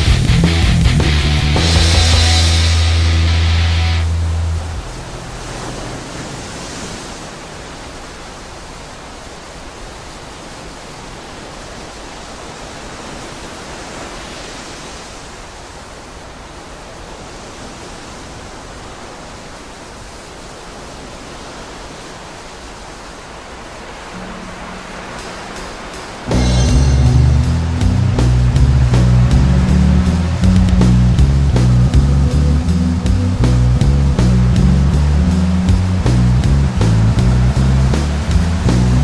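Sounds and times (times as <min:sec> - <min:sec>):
steady hiss-like noise: 0:00.0 - 0:39.0.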